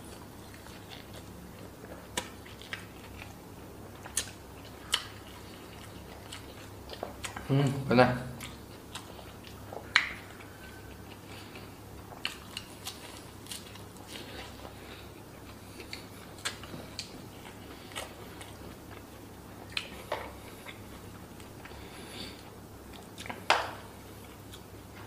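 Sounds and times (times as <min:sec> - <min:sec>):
person chewing food: 0:00.0 - 0:07.7, 0:08.3 - 0:25.0.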